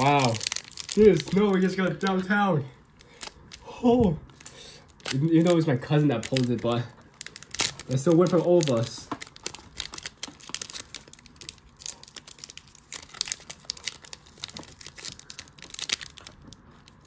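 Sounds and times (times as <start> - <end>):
foil wrapper crinkling and tearing: 0.0 - 17.0.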